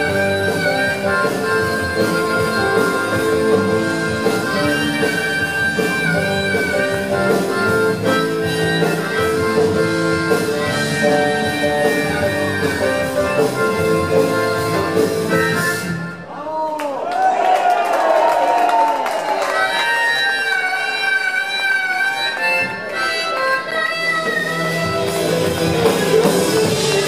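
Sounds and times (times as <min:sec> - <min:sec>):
rock band playing instrumental: 0:00.0 - 0:16.3, 0:19.4 - 0:27.0.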